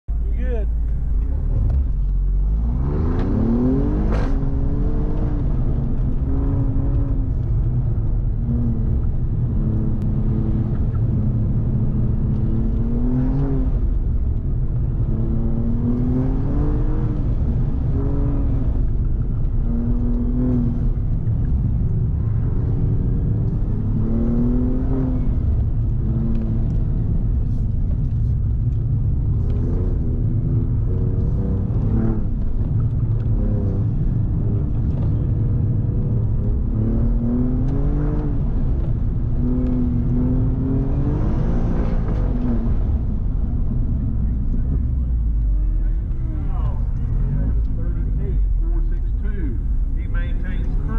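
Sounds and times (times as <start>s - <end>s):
car engine revving in cabin: 0.5s - 50.9s.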